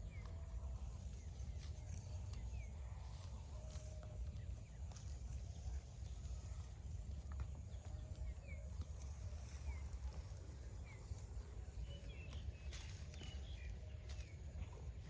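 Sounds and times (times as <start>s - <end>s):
small bird chirping: 0.0s - 15.0s
steady low rumble: 0.0s - 15.0s.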